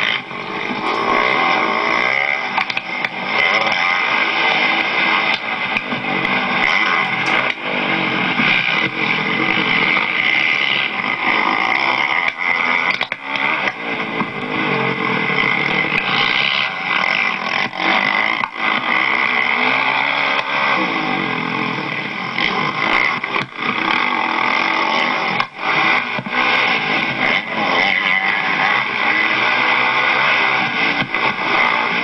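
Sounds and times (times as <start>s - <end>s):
motocross bike engine revving hard: 0.0s - 32.0s.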